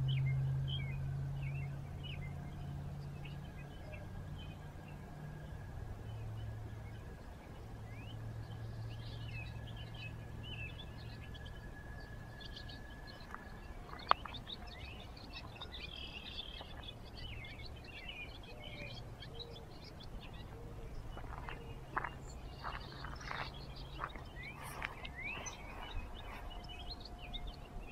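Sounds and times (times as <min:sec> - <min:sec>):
low steady hum: 0:00.0 - 0:27.9
small birds chirping: 0:00.0 - 0:27.9.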